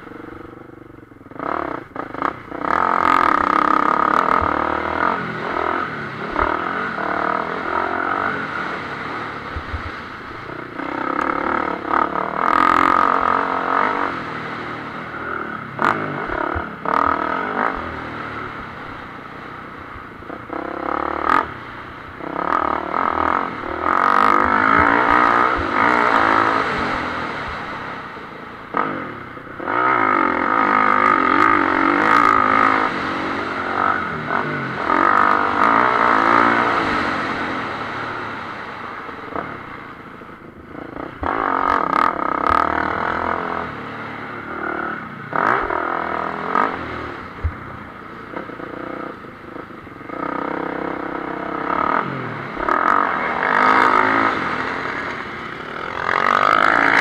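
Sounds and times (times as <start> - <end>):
motocross engine revving: 0.0 - 19.5, 20.2 - 57.0.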